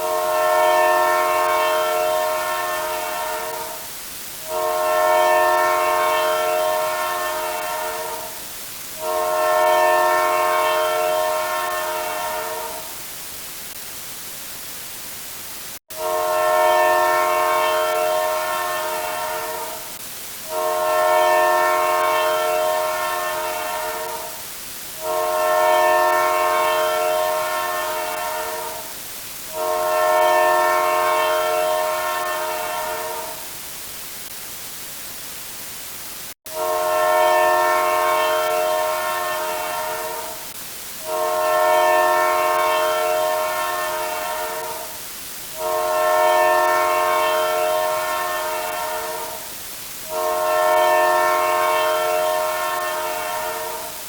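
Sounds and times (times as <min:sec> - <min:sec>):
multi-tone horn blasts: 0:00.0 - 0:13.0, 0:15.9 - 0:33.5, 0:36.5 - 0:54.0.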